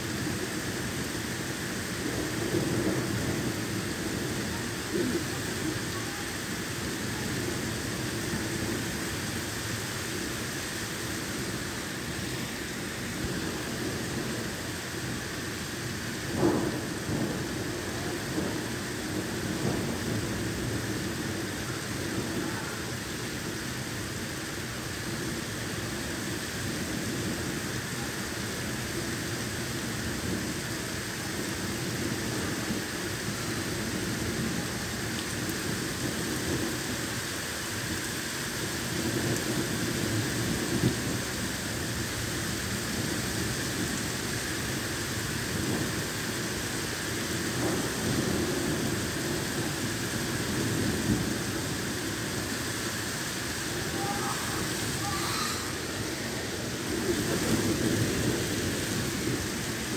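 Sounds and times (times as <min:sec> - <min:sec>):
heavy rain pouring on street: 0:00.0 - 0:59.9.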